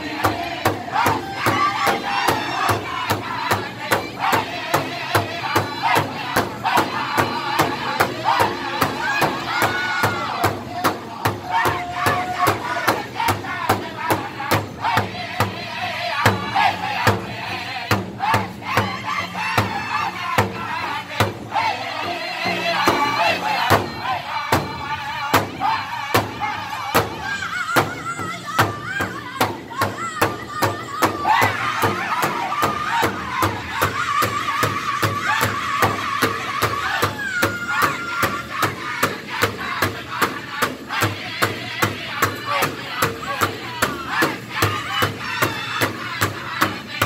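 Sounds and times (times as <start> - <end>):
big drum steady beat: 0.0 - 47.0
group singing high-pitched unison: 0.0 - 47.0.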